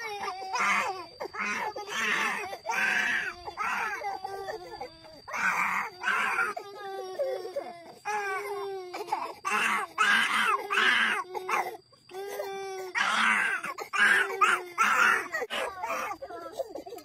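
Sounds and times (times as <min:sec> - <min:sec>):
girl crying: 0:00.0 - 0:17.0.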